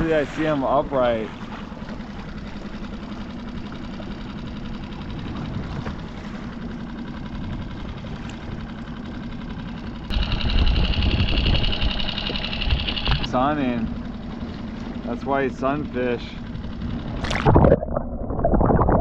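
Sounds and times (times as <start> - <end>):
outboard motor humming: 0.0 - 19.0.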